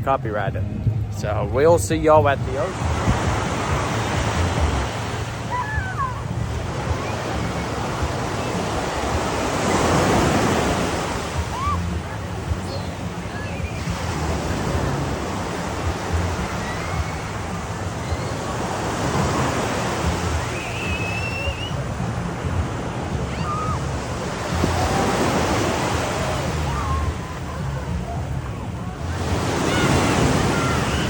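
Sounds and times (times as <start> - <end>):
wind buffeting microphone: 0.0 - 31.0
ocean surf breaking: 1.3 - 31.0.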